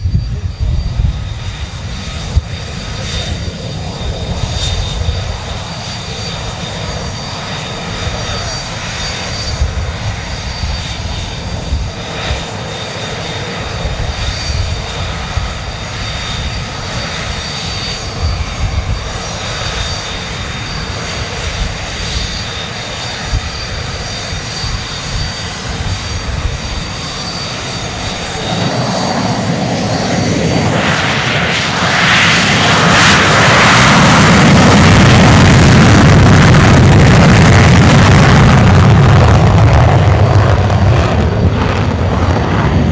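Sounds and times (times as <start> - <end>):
jet afterburner roar: 0.0 - 42.9
jet engine whine: 0.0 - 42.9.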